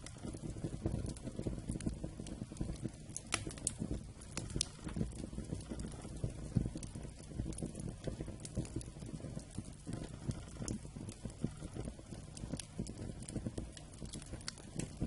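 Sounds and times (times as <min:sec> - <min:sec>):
campfire crackling: 0:00.0 - 0:15.0
fire snapping: 0:00.0 - 0:15.0.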